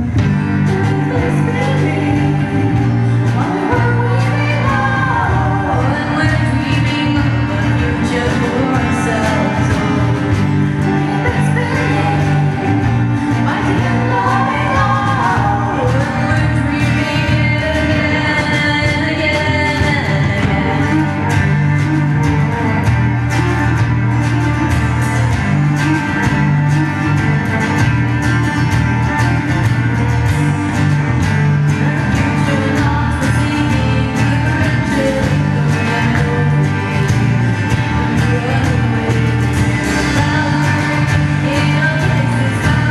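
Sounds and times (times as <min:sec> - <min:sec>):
woman singing: 0:00.0 - 0:27.8, 0:29.2 - 0:42.9
live band playing: 0:00.0 - 0:42.9.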